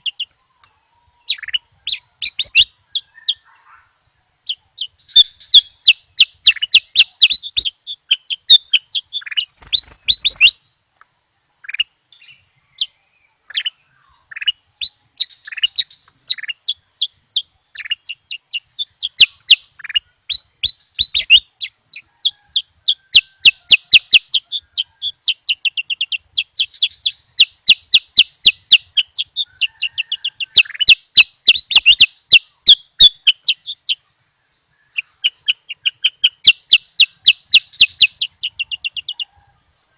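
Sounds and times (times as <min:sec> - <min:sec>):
bird chirping rapidly: 0:00.0 - 0:00.4, 0:01.2 - 0:10.7, 0:11.6 - 0:34.0, 0:34.8 - 0:39.4
steady high hiss: 0:00.0 - 0:39.9.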